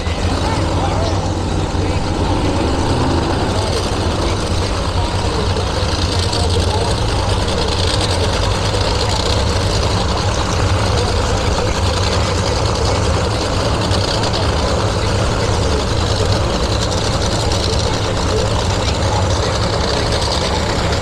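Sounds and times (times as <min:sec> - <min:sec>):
engine low rumble: 0:00.0 - 0:21.0.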